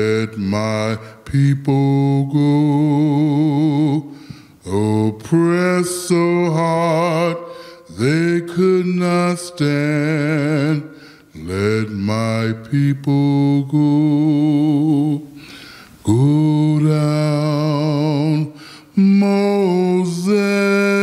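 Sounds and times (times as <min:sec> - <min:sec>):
man singing unaccompanied: 0:00.0 - 0:15.4, 0:16.0 - 0:21.0.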